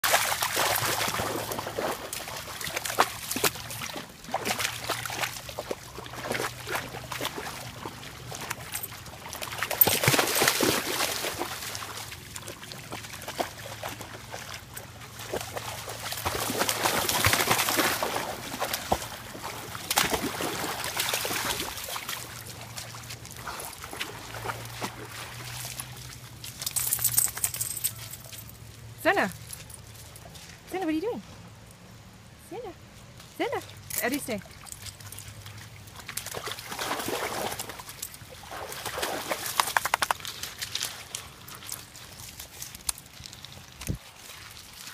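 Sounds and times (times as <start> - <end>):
dog splashing through water: 0.0 - 28.4, 33.6 - 44.9
river trickling: 0.0 - 44.9.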